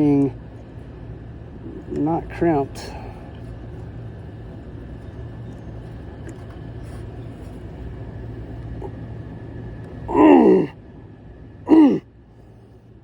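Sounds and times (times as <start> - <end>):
air conditioning unit humming: 0.0 - 13.0.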